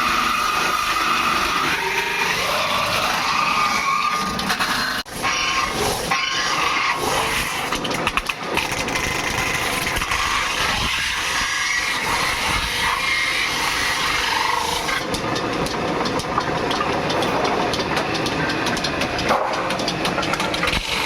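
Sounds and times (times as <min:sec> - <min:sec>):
workshop machinery running: 0:00.0 - 0:21.0.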